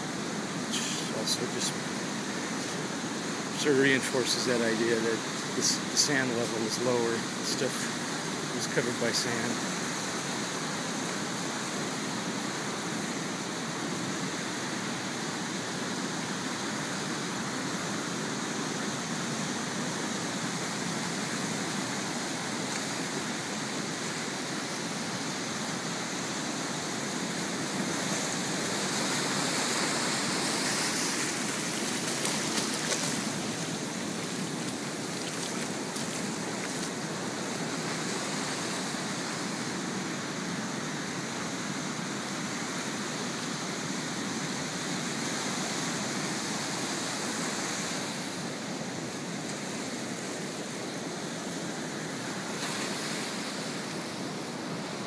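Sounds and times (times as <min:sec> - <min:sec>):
ocean surf washing up a beach: 0:00.0 - 0:55.0.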